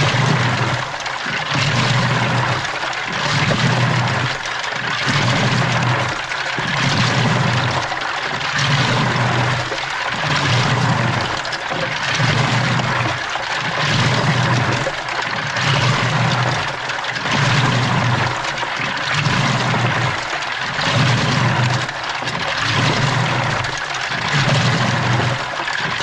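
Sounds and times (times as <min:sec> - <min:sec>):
washing machine motor hum: 0:00.0 - 0:26.0
water sloshing in washing machine: 0:00.0 - 0:26.0.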